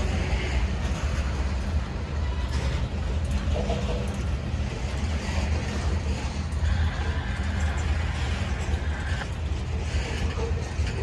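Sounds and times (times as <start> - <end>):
steel train wheels rumbling on rails: 0.0 - 11.0
train cars clanking: 0.0 - 11.0.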